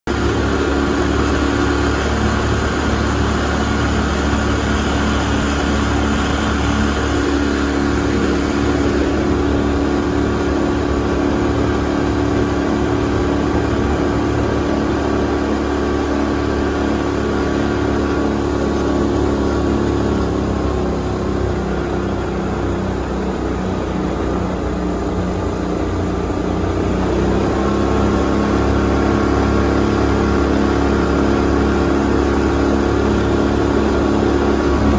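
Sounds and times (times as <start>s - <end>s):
outboard motor running: 0.0s - 34.9s
water rushing past: 0.1s - 34.9s.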